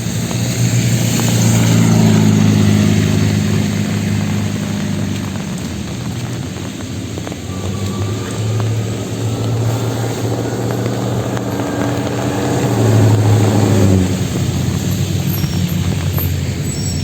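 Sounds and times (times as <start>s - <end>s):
vehicle engine running: 0.0s - 16.8s
rain on wet road: 0.0s - 17.0s.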